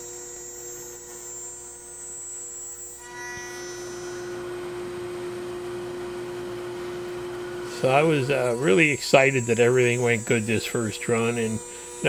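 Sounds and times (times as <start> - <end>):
cnc router electric hum: 0.0 - 12.0
dust collector whine and hiss: 0.0 - 12.0.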